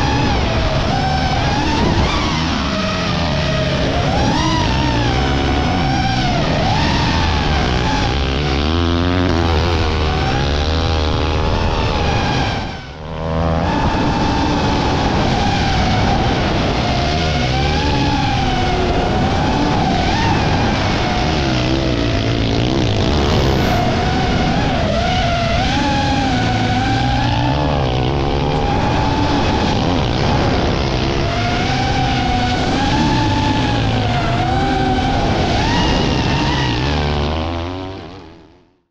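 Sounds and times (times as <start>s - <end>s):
motocross bike engine revving: 0.0s - 38.4s
drone propellers whining: 0.0s - 38.5s.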